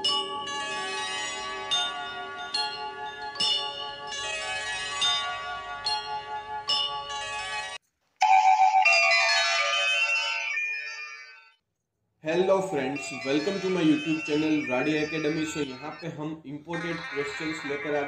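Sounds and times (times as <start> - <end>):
bell-like chiming music: 0.0 - 11.6, 12.3 - 18.0
bright chime jingle: 0.0 - 11.6, 12.3 - 18.0.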